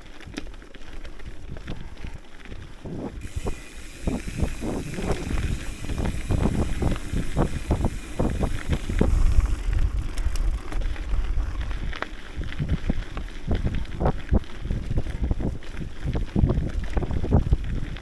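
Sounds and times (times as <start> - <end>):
bike tyres crunching on dirt: 0.0 - 18.0
bike rattling over bumps: 0.1 - 18.0
wind buffeting microphone: 1.4 - 18.0.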